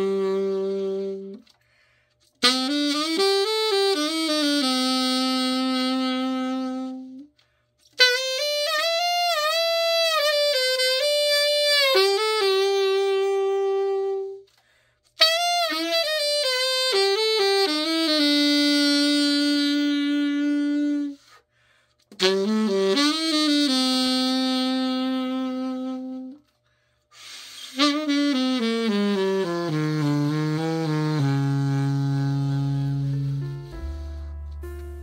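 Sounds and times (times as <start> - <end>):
alto saxophone melody: 0.0 - 35.0.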